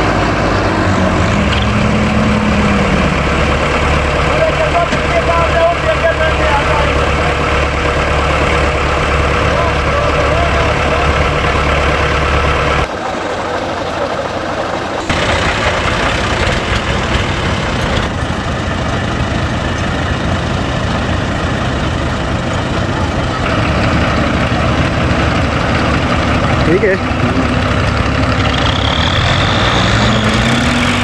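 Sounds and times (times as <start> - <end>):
tractor diesel engines idling: 0.0 - 31.0.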